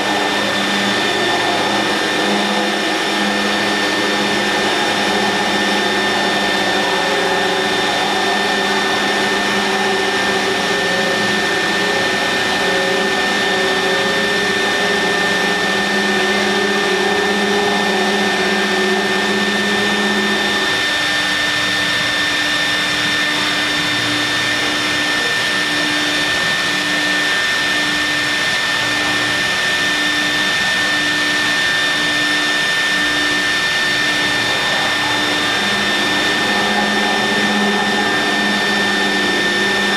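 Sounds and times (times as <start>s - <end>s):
pulsing low hum: 0.0s - 27.1s, 27.8s - 39.9s
continuous rushing noise: 0.0s - 39.9s
milling machine spindle whine: 0.0s - 39.9s.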